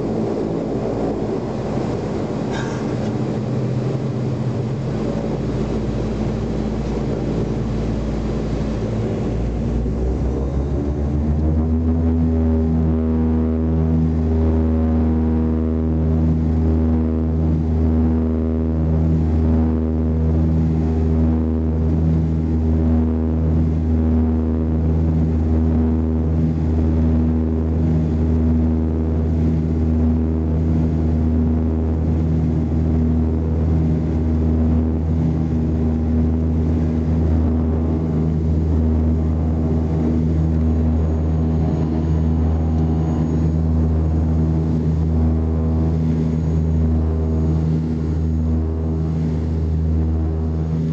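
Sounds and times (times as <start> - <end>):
turboprop engines droning: 0.0 - 50.9.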